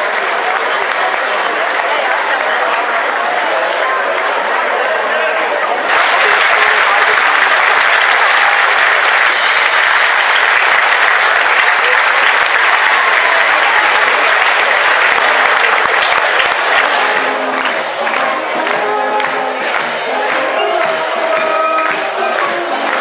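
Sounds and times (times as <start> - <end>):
crowd applause: 0.0 - 23.0.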